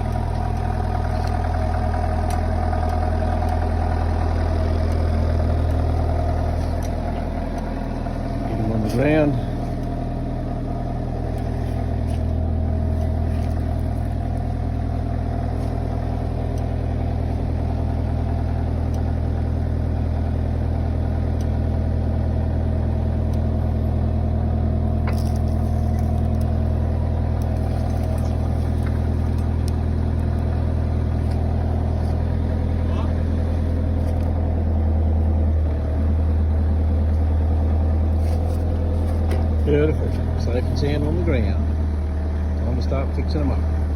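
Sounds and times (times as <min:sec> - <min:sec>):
vehicle engine humming: 0:00.0 - 0:43.9.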